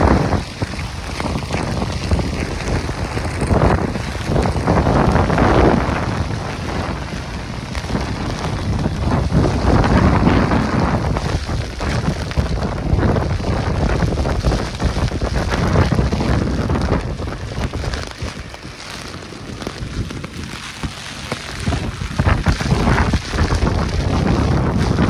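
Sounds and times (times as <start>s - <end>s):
heavy rain: 0.0s - 25.0s
wind buffeting microphone: 0.0s - 25.0s.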